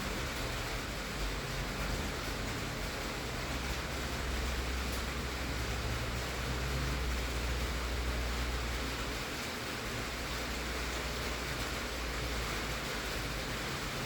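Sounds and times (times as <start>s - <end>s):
heavy rain on a tin roof: 0.0s - 14.0s.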